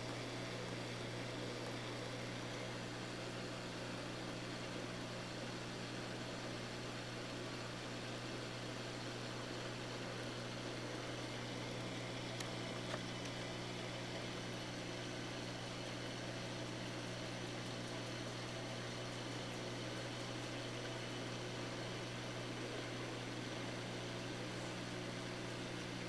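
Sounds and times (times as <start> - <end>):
aquarium pump humming and hissing: 0.0 - 26.0.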